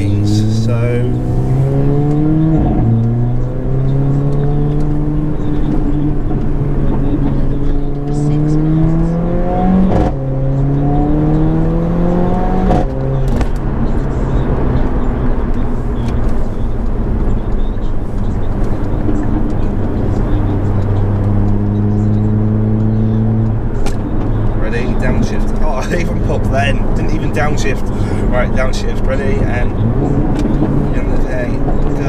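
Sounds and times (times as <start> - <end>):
car engine accelerating: 0.0 - 32.0
exhaust crack at gear shifts: 0.0 - 32.0.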